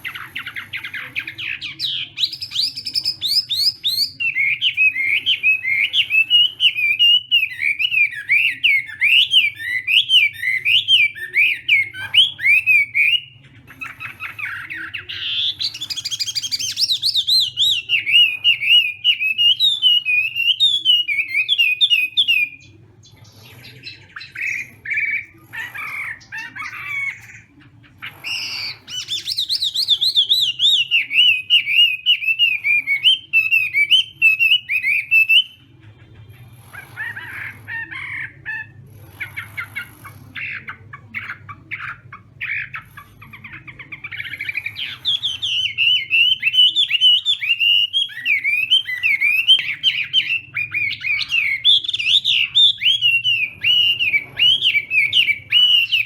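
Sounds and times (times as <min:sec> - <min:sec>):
bird warbling song: 0:00.0 - 0:56.0.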